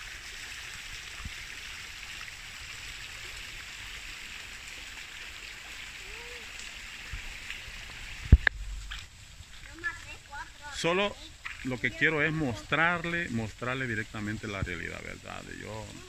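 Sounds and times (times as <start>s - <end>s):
river water rushing: 2.3s - 16.0s.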